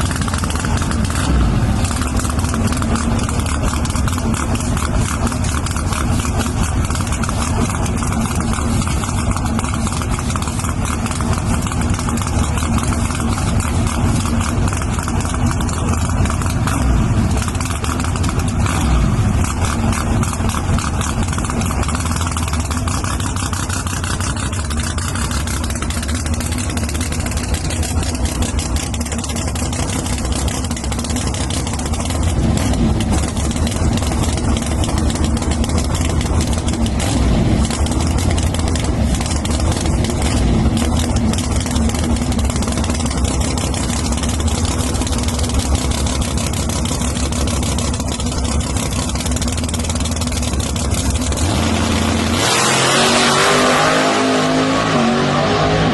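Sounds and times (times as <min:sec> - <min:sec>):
drag racing engines idling: 0:00.0 - 0:55.9.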